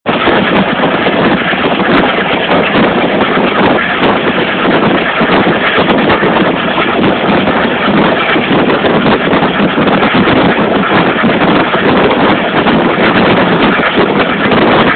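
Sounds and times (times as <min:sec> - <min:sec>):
wind buffeting microphone: 0:00.0 - 0:14.9
moving train rushing: 0:00.1 - 0:14.9.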